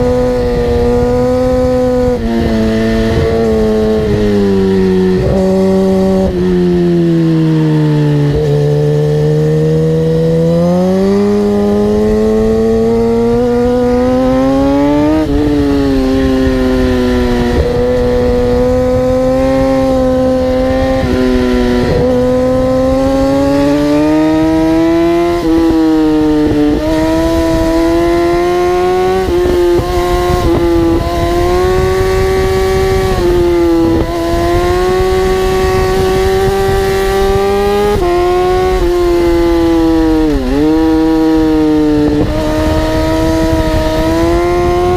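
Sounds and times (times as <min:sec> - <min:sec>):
high-revving vehicle engine: 0:00.0 - 0:44.9.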